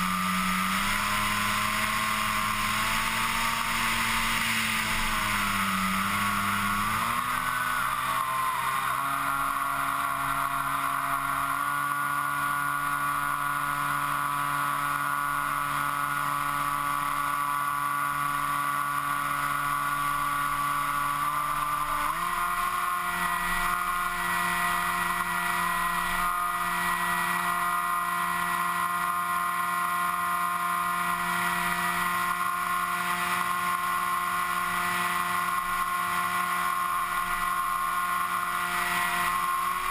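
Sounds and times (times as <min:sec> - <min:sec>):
model aircraft motor and propeller: 0:00.0 - 0:39.9.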